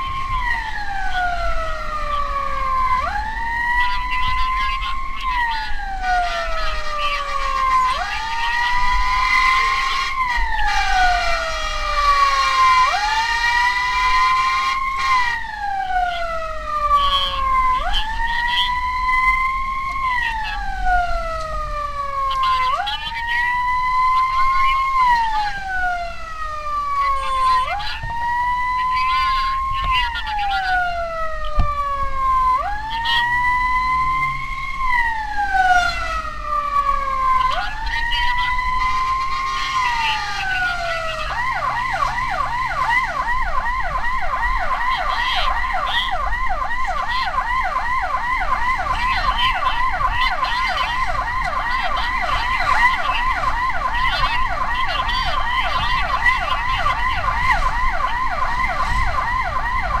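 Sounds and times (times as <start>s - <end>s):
emergency siren wailing and yelping: 0.0s - 60.0s.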